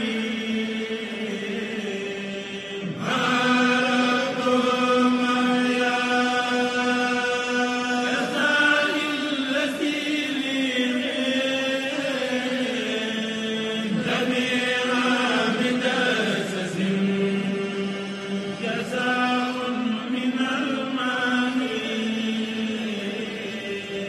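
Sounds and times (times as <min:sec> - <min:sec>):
person chanting a prayer: 0:00.0 - 0:24.0.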